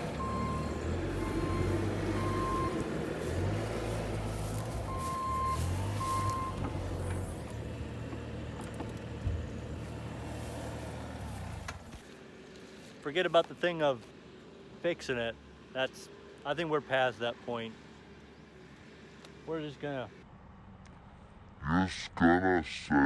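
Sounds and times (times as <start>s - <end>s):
vehicle engine running: 0.0s - 21.7s.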